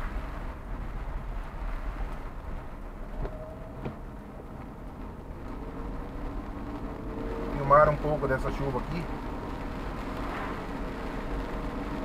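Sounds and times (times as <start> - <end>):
low rumble of engine and tyres: 0.0 - 12.0
raindrops tapping on windshield: 0.0 - 12.0.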